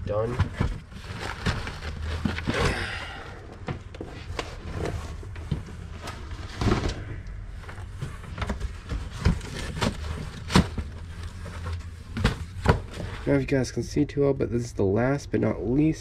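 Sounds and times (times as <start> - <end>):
cardboard and plastic packing rustling: 0.0 - 13.6.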